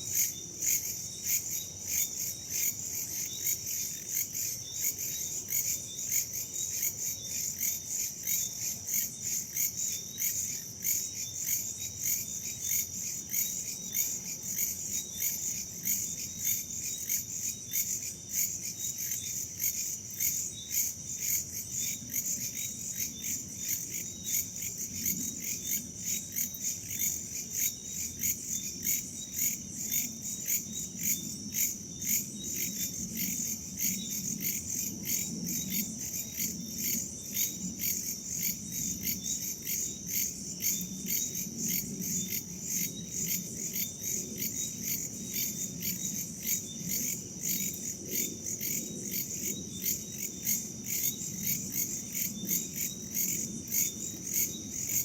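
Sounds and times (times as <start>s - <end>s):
crickets and insects chirping: 0.0s - 55.0s.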